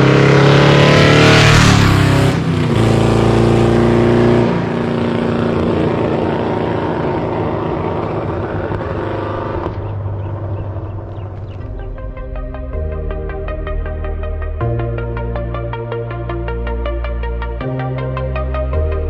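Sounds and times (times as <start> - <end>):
car engine revving: 0.0 - 18.7
car driving away: 0.0 - 19.0.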